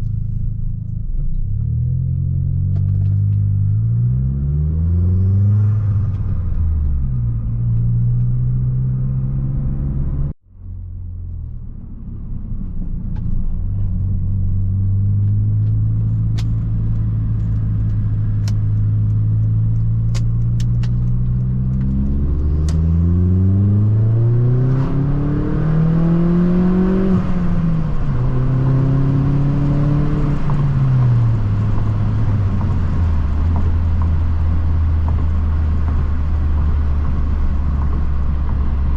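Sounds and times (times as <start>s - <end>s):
road and wind noise: 0.0s - 38.9s
car engine running: 5.9s - 38.9s.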